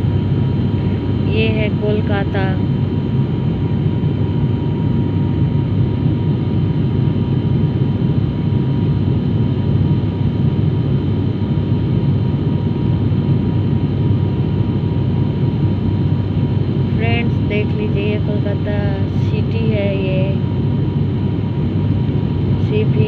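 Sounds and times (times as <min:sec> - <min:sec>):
airliner cabin engine roar: 0:00.0 - 0:23.0
faint steady whine: 0:00.0 - 0:23.0.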